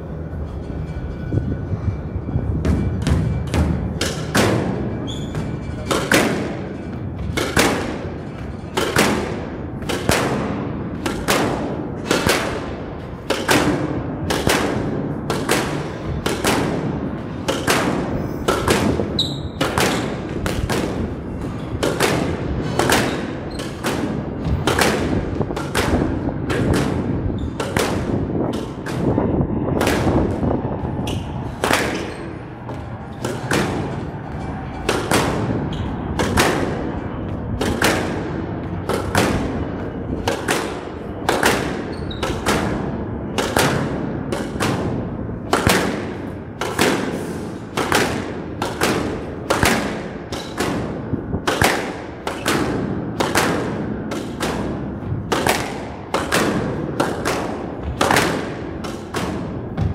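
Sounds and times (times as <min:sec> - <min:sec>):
low background noise: 0:00.0 - 0:59.9
squash ball cracking off walls: 0:02.6 - 0:34.1, 0:34.8 - 0:59.9.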